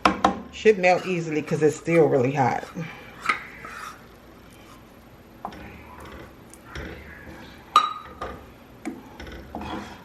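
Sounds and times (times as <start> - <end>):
faint spoon stirring: 0.7 - 10.0.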